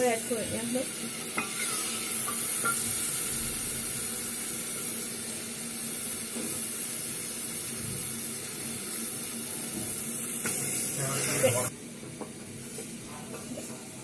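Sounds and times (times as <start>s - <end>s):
lentils sizzling in hot oil: 0.0s - 14.0s.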